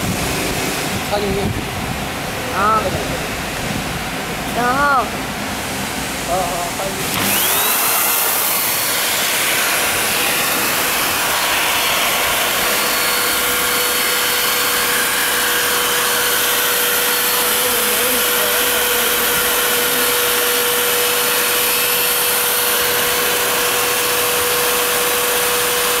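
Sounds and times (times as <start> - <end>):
electric air blower running: 0.0 - 26.0.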